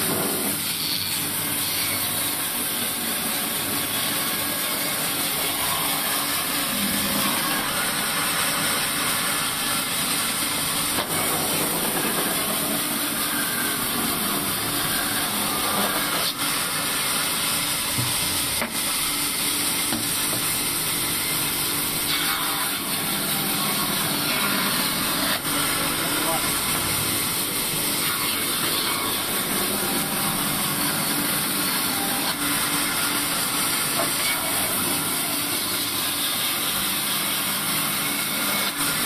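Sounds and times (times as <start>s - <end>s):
band saw cutting wood: 0.0s - 39.0s.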